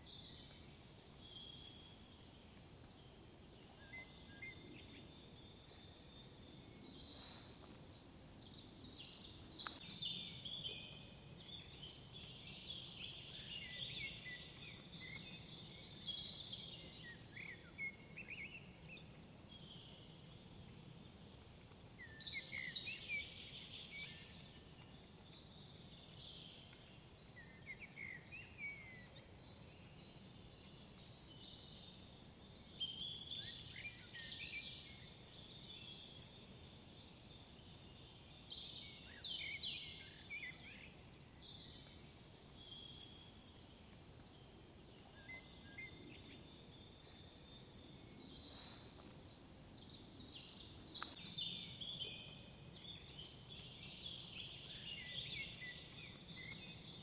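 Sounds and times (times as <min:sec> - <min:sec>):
faint steady background hiss: 0:00.0 - 0:57.0
songbirds singing: 0:00.0 - 0:57.0.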